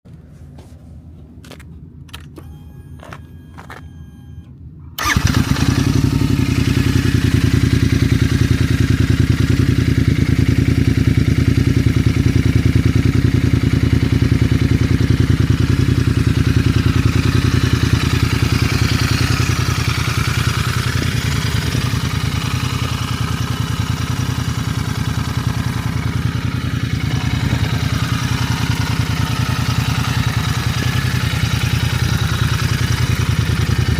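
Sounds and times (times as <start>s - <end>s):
motorcycle engine starting and idling: 1.4s - 33.9s.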